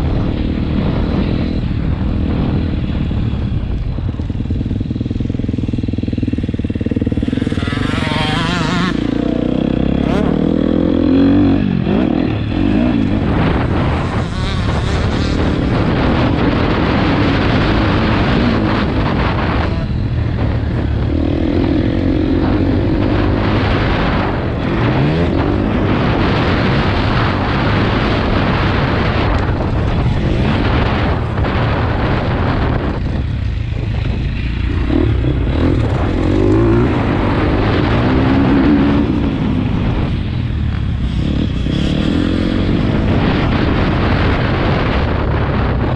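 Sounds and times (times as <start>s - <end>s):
heavy rush of noise: 0.0s - 45.9s
dirt bike engine revving: 4.2s - 45.9s.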